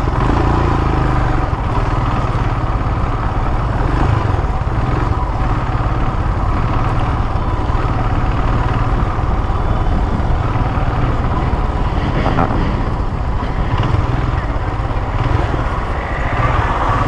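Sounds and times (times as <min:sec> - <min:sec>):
motorcycle engine rumble: 0:00.0 - 0:17.0
road noise: 0:00.0 - 0:17.0.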